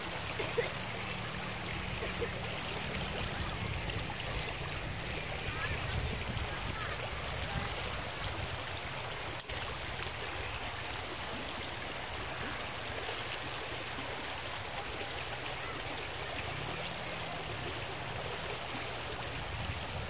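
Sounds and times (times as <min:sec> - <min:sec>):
river running over stones: 0:00.0 - 0:20.0.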